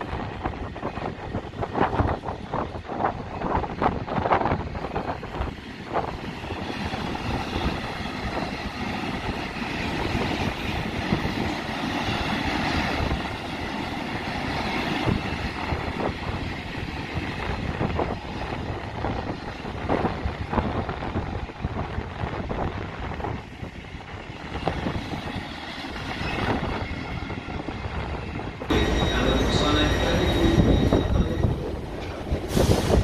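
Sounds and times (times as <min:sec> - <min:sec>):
wind buffeting microphone: 0:00.0 - 0:28.8, 0:30.0 - 0:33.0
train wheels rumbling on rail: 0:00.0 - 0:33.0.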